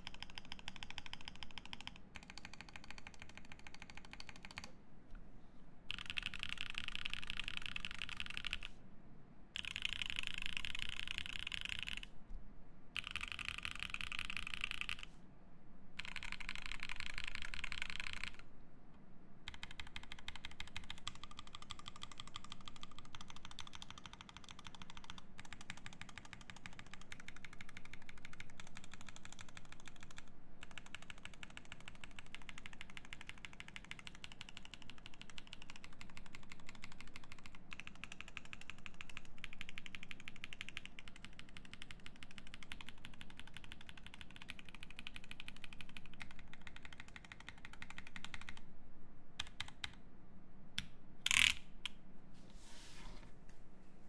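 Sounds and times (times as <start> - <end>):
fast typing on mechanical keyboard: 0.0 - 4.7, 5.9 - 8.7, 9.6 - 12.1, 13.0 - 15.1, 16.0 - 18.4, 19.5 - 48.6, 49.4 - 50.0, 51.3 - 51.6.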